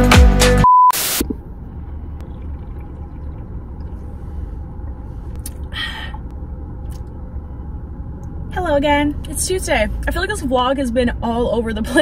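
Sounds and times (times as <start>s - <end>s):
car engine idling: 1.2s - 12.0s.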